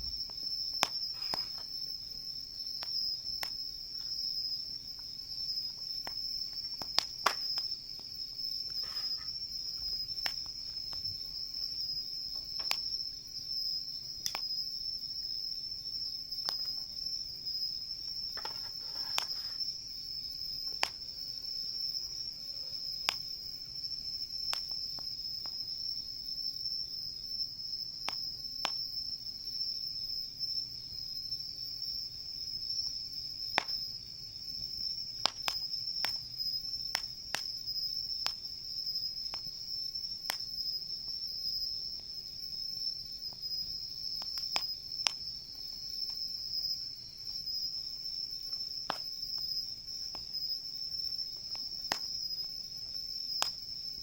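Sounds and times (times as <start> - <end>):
campfire crackling: 0.0 - 29.0, 32.2 - 54.0
insects chirring: 0.0 - 54.0.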